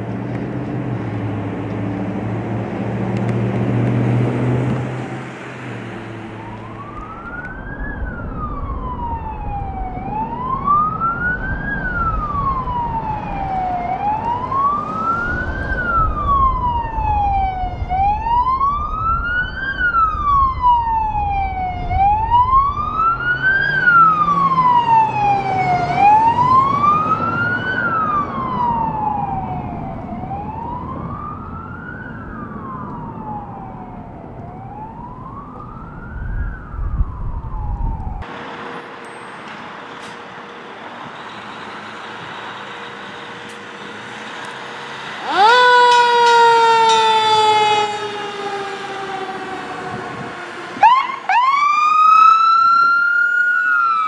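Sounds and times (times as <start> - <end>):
road noise: 0.0 - 54.0
emergency siren wailing: 2.0 - 39.0, 39.8 - 54.0.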